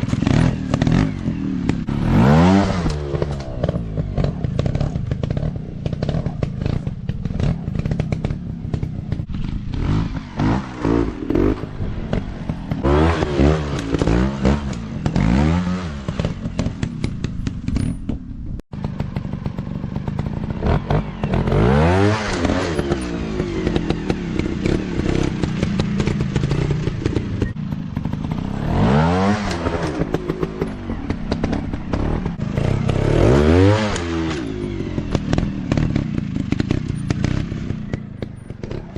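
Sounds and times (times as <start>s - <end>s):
dirt bike engines revving: 0.0s - 17.9s, 18.8s - 38.9s.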